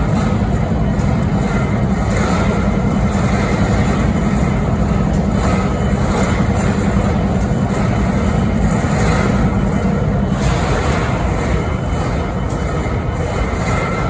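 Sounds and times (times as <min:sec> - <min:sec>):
diesel locomotive idling: 0:00.0 - 0:14.0.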